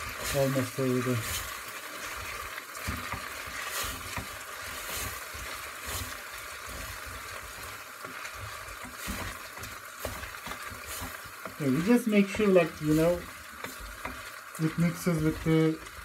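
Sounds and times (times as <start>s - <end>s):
pasta sizzling in oil: 0.0s - 16.0s
stirring knocks in pot: 0.0s - 16.0s.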